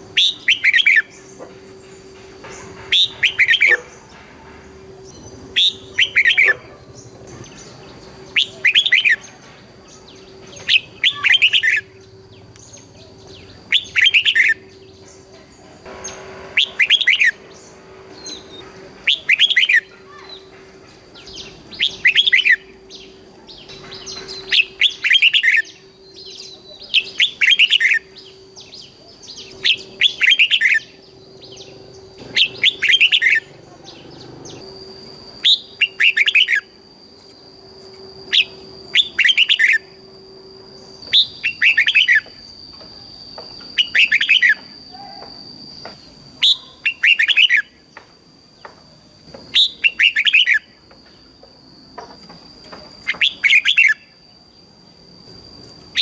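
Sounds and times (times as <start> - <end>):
bulbul warbling song: 0.0 - 4.1, 4.9 - 40.1, 40.8 - 47.8.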